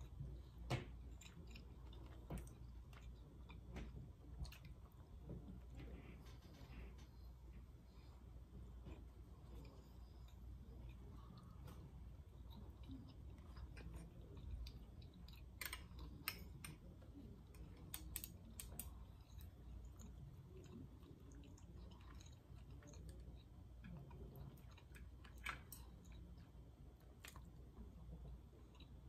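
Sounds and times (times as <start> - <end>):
faint chewing mouth sounds: 0.0 - 29.0
low steady hum: 0.0 - 29.0.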